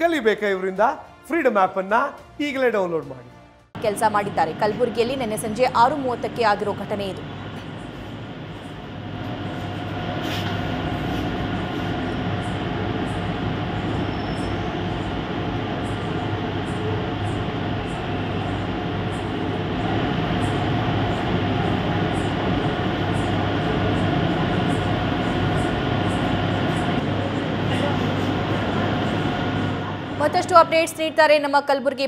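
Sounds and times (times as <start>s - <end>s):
train coaches rumbling and humming: 3.8s - 32.0s.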